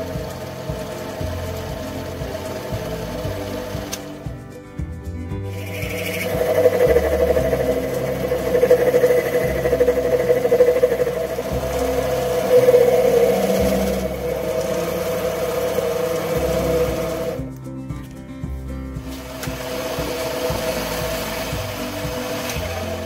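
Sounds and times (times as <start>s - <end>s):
lathe mechanical hum and whine: 0.0s - 4.3s, 5.5s - 17.5s, 19.0s - 23.0s.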